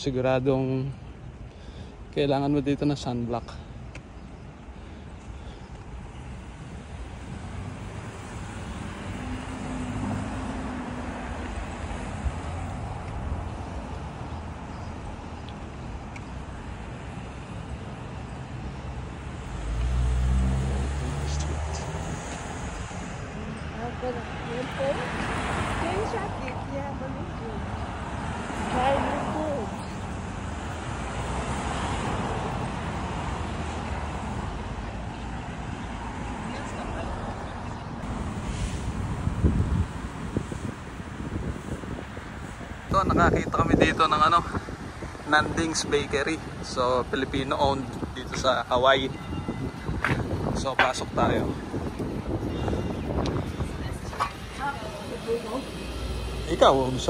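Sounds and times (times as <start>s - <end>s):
cars passing: 0.0s - 57.0s
road traffic rumble: 0.0s - 57.0s.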